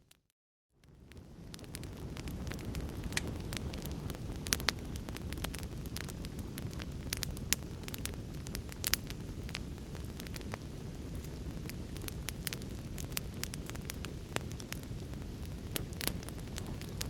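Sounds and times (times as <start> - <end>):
wood fire crackling: 0.8 - 17.0.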